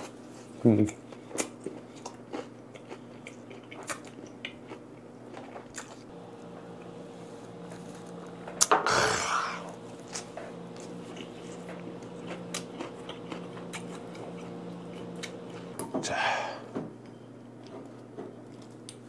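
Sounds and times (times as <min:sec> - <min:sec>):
person chewing: 0:00.0 - 0:06.1, 0:08.6 - 0:15.9, 0:17.0 - 0:19.0.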